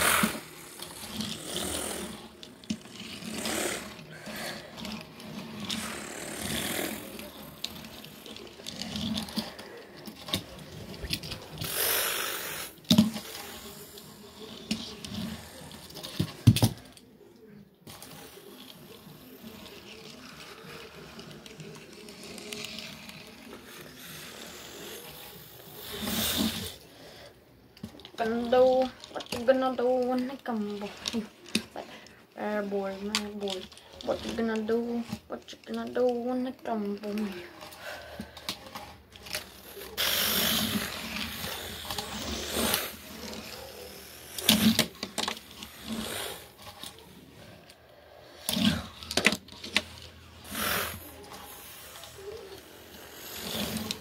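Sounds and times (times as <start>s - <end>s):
toy car scraping across carpet: 0.0s - 17.0s, 17.8s - 54.0s.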